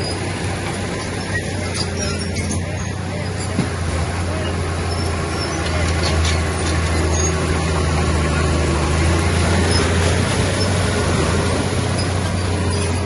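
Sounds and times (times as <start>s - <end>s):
heavy diesel engine droning: 0.0s - 13.0s.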